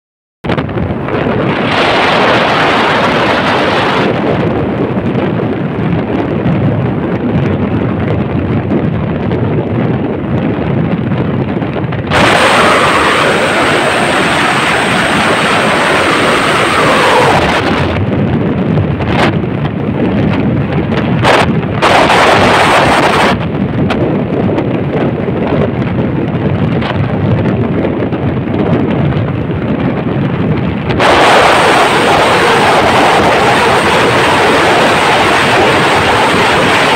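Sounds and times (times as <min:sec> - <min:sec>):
wind buffeting microphone: 0:00.4 - 0:36.9
vehicle road noise: 0:00.5 - 0:36.9.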